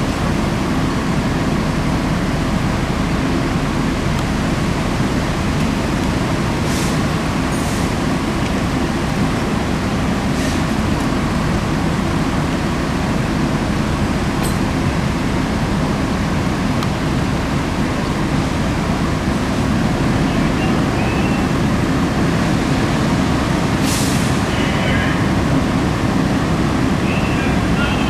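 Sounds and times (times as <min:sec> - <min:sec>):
road vehicle rumble: 0:00.0 - 0:28.0.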